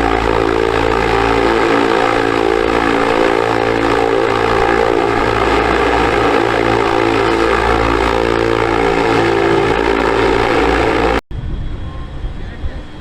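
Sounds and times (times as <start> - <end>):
electric motor whine: 0.0 - 11.2
propeller wash: 0.0 - 11.2.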